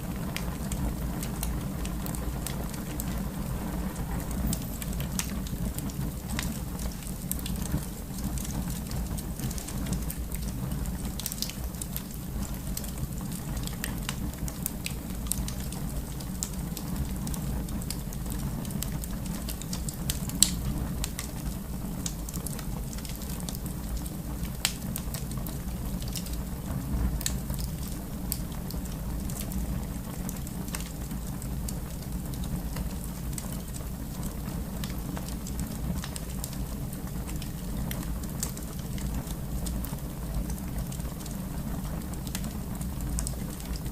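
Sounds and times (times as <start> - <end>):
fire crackling in a fireplace: 0.0 - 43.9.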